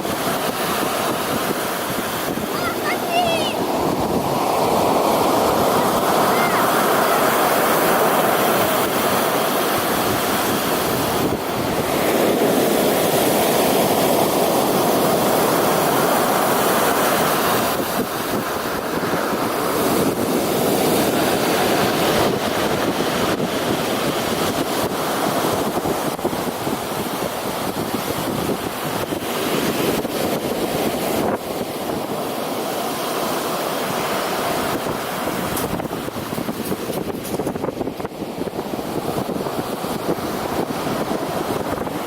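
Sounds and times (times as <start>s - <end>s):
sea waves breaking: 0.0s - 42.0s.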